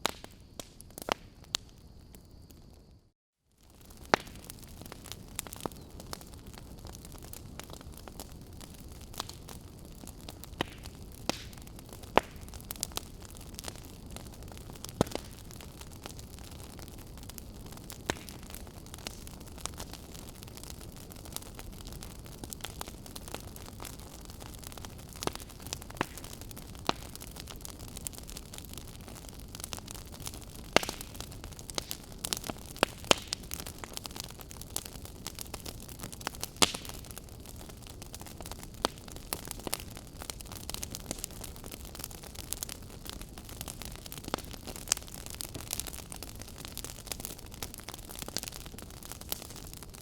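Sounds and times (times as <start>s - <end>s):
sharp pops of fire: 0.0s - 2.7s, 3.6s - 50.0s
wood fire crackling: 0.0s - 2.7s, 3.6s - 50.0s.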